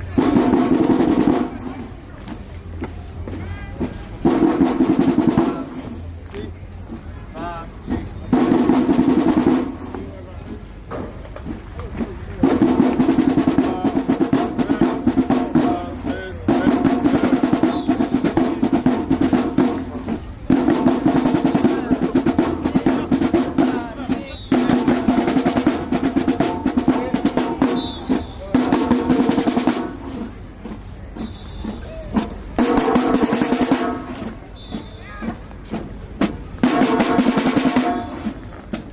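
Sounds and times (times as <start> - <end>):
snare drum rolls: 0.0 - 6.1, 6.9 - 38.9.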